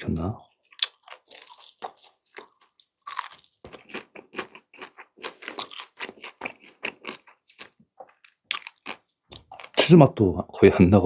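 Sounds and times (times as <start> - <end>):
chewing crunchy food: 0.4 - 9.8.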